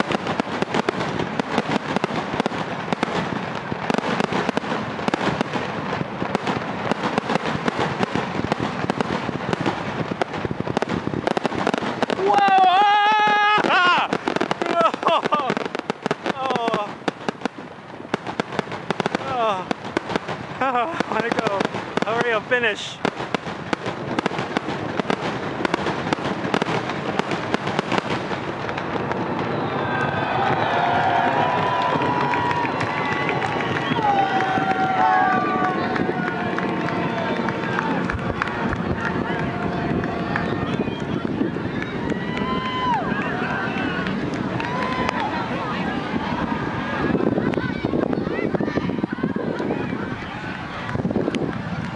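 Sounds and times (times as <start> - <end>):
fireworks bangs and crackles: 0.0 - 51.9
people's voices: 0.0 - 51.9.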